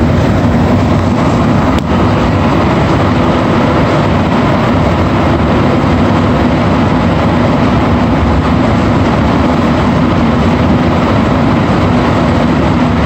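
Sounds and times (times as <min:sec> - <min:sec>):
metro train rumbling in tunnel: 0:00.0 - 0:13.0.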